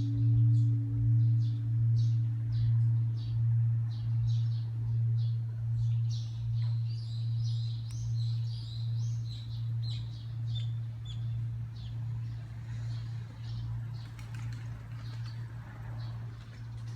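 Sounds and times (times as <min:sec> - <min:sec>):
temple bell humming: 0:00.0 - 0:14.0
small birds chirping: 0:02.0 - 0:16.9.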